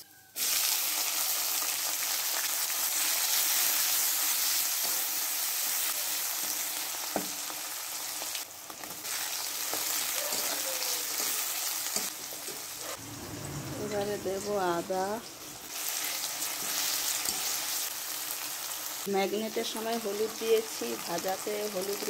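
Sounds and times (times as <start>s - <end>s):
onion and garlic sizzling in oil: 0.0s - 22.0s.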